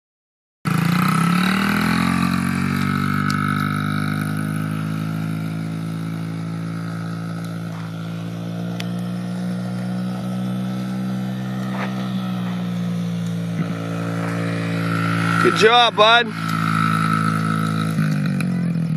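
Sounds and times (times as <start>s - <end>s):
dirt bike engine running: 0.7s - 18.9s.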